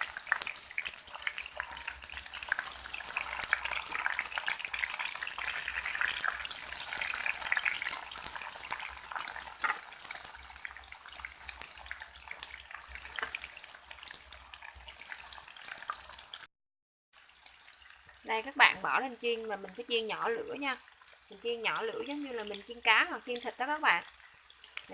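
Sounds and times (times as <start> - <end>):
food sizzling in oil: 0.0 - 16.5, 17.1 - 24.9.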